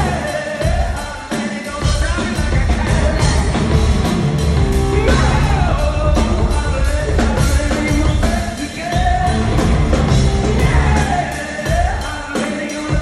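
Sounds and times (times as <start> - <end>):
drums: 0.0 - 13.0
electric guitar: 0.0 - 13.0
man singing: 0.0 - 13.0.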